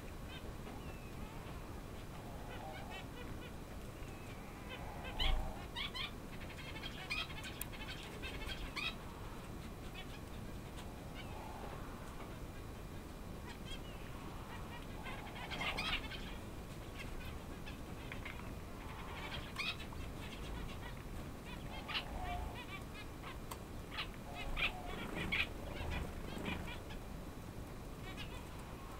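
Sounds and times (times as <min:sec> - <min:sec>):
quail soft peeps: 0:00.3 - 0:27.0.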